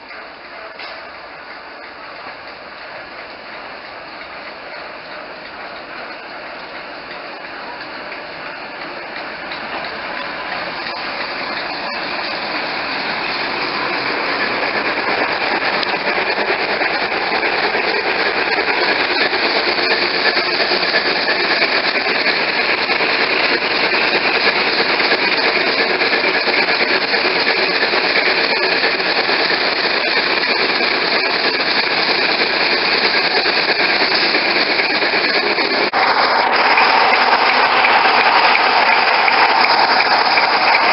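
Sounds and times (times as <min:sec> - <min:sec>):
train rattling clatter: 0:00.0 - 0:40.9.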